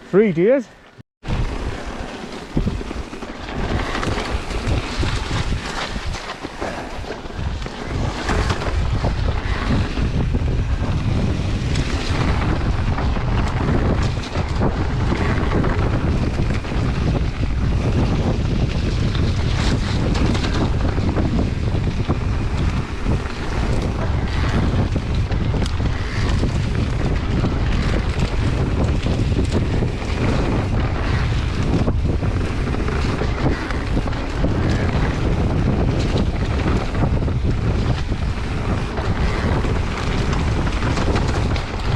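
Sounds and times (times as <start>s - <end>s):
tyres rumbling on trail: 0.0s - 41.9s
bike knocks and rattles: 1.2s - 41.9s
wind buffeting microphone: 1.2s - 41.9s.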